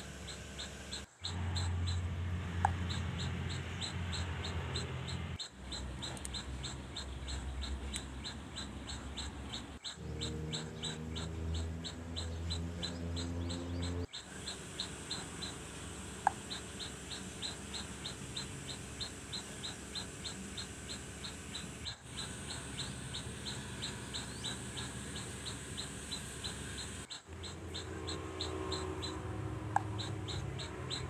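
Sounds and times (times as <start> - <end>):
high-pitched chirping: 2.7 - 31.0.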